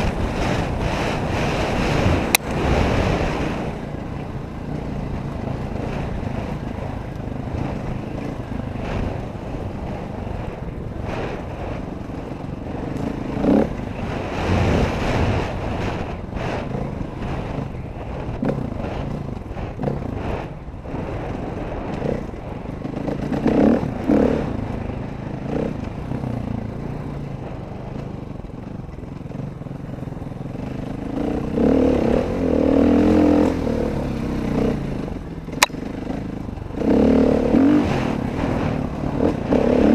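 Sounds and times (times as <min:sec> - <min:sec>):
dirt bike engine revving: 0:00.0 - 0:11.8, 0:12.6 - 0:27.1, 0:30.0 - 0:39.9.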